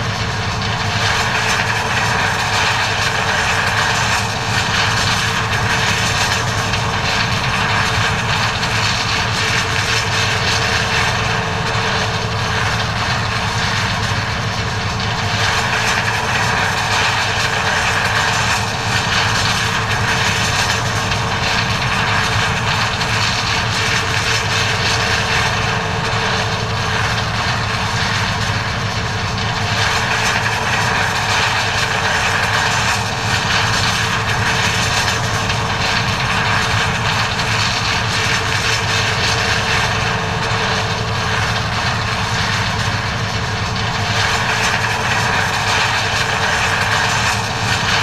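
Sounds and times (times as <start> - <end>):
combine harvester droning: 0.0 - 48.0.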